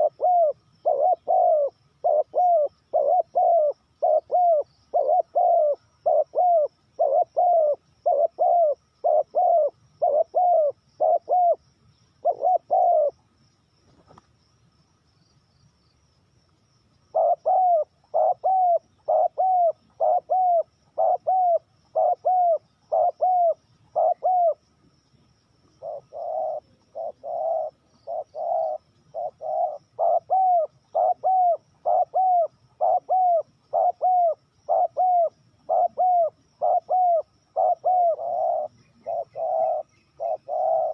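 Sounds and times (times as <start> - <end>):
dove cooing: 0.0 - 13.2, 17.1 - 24.6, 25.7 - 40.9
faint high chirping: 0.0 - 40.9.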